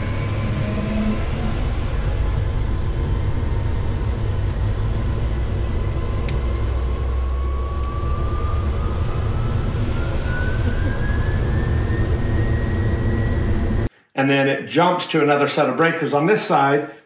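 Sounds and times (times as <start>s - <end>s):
engine whine rising in pitch: 0.0s - 13.9s
propeller aircraft engine rumble: 0.0s - 13.9s.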